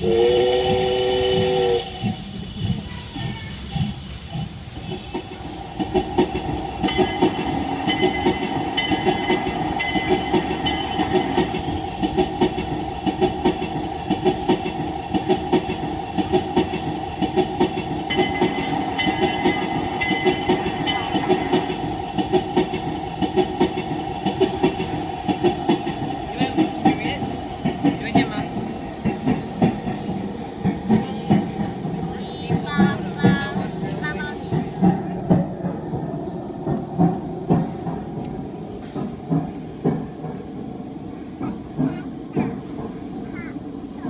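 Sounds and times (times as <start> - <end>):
steam train running: 0.0 - 44.0.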